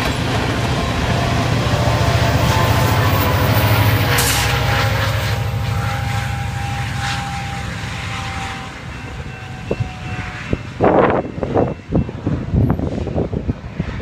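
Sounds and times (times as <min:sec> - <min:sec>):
diesel locomotive droning: 0:00.0 - 0:14.0.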